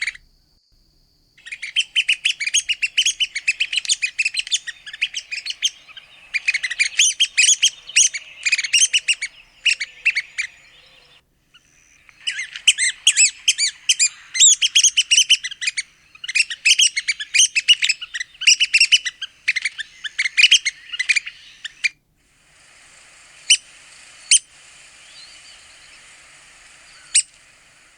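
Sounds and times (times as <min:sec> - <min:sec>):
faint steady hiss: 0:00.0 - 0:27.9
woodpeckers chattering calls: 0:01.4 - 0:27.9.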